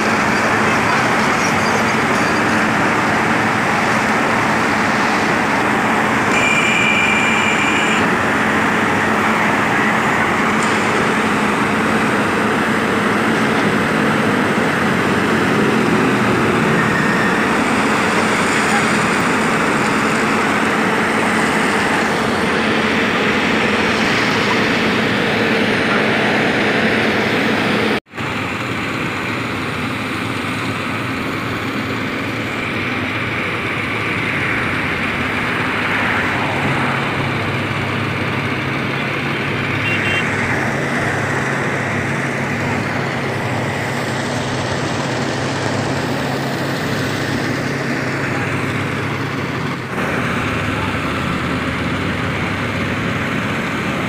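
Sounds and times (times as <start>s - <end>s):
construction machinery engines running: 0.0s - 54.0s.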